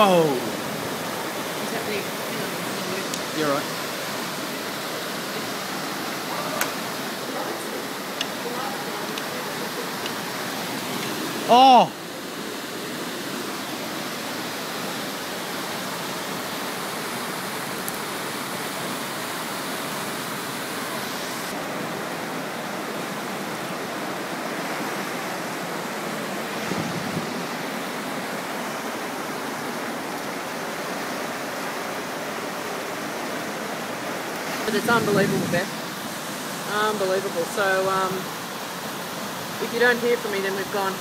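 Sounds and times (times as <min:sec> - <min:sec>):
floodwater torrent rushing: 0:00.0 - 0:41.0.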